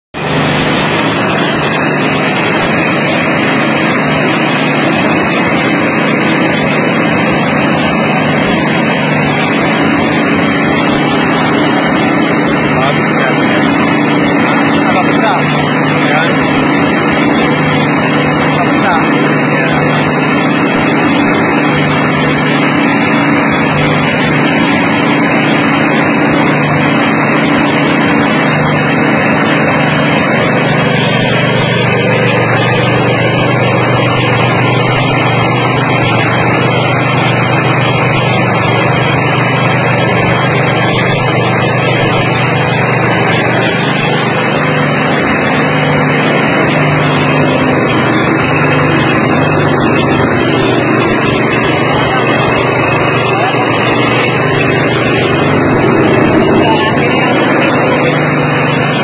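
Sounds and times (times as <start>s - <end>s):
rice milling machine humming: 0.2s - 59.0s.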